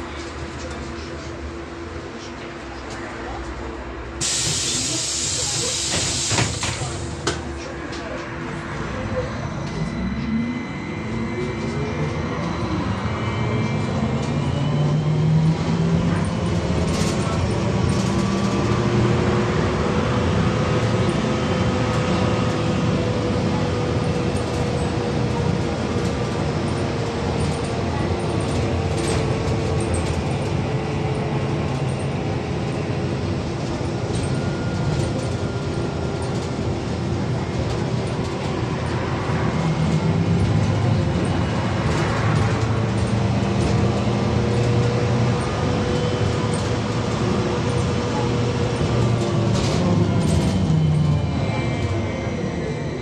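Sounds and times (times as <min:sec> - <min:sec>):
rumble of tyres on road: 0:04.3 - 0:53.0.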